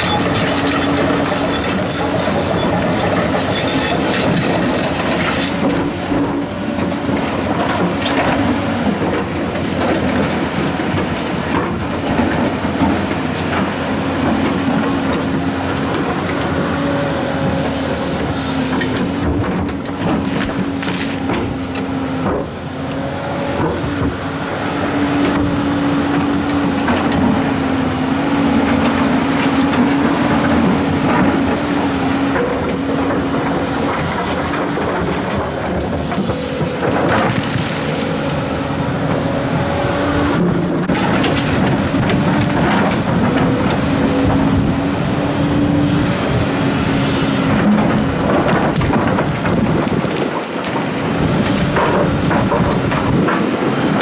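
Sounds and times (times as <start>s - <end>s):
excavator engine and hydraulics whining: 0.0s - 54.0s.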